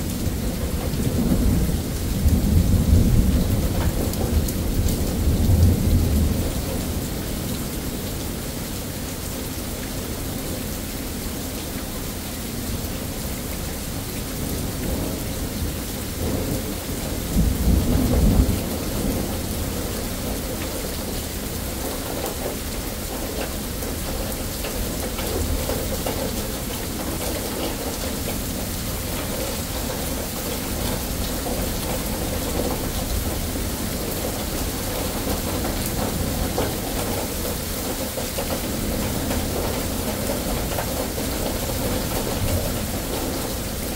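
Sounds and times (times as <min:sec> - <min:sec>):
thunder rumbling: 0:00.0 - 0:08.0, 0:14.3 - 0:43.9
steady rain falling: 0:00.0 - 0:43.9.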